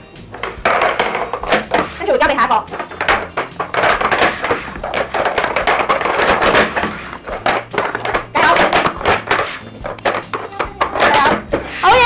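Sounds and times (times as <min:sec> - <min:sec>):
plastic cups clacking on wooden table: 0:00.2 - 0:12.0.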